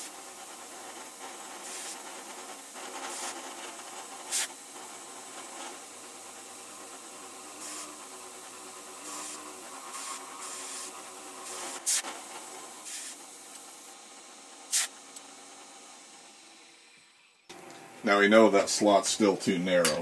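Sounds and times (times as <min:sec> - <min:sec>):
hissing cutting bursts: 0:00.0 - 0:16.9
milling machine hum: 0:00.0 - 0:18.6.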